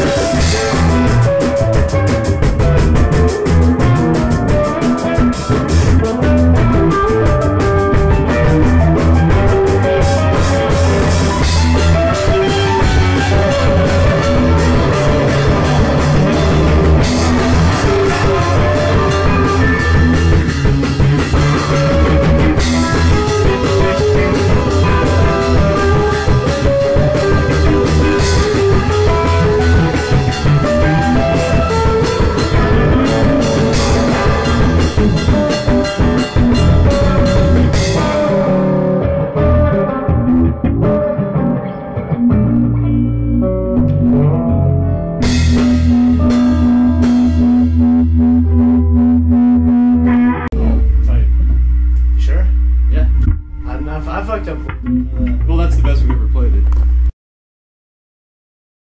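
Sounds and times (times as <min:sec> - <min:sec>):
drum kit steady rhythm: 0:00.0 - 0:42.8, 0:45.2 - 0:48.5, 0:50.1 - 0:57.1
rock band playing: 0:00.0 - 0:57.1.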